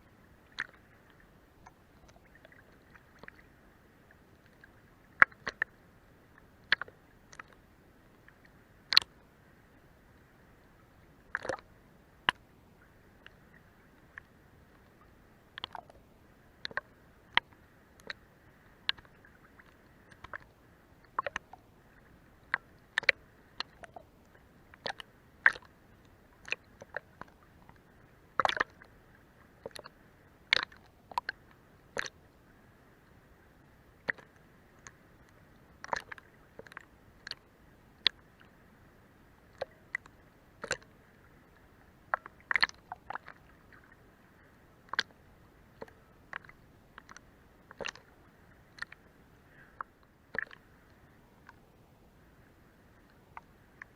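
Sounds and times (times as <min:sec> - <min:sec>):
faint steady hiss: 0:00.0 - 0:53.9
water lapping under boat hull: 0:00.0 - 0:53.9.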